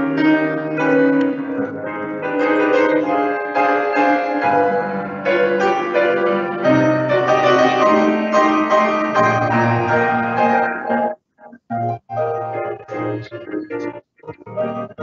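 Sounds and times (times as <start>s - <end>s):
grand piano chords: 0.0s - 15.0s.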